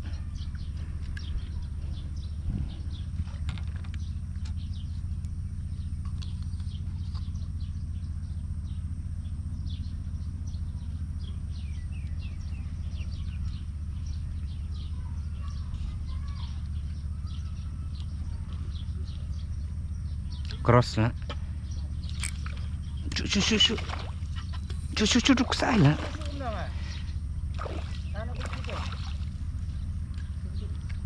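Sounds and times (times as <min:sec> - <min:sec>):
small birds chirping: 0:00.0 - 0:31.0
steady low rumble: 0:00.0 - 0:31.0.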